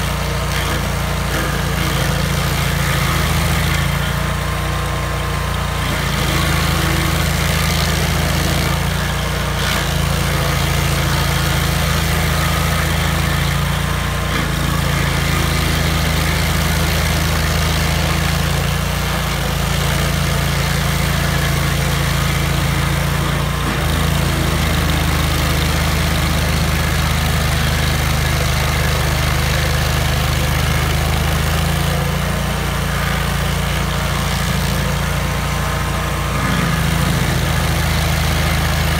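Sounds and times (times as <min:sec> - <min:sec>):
cutter wheel grinding stump: 0:00.0 - 0:38.9
stump grinder engine running: 0:00.0 - 0:38.9.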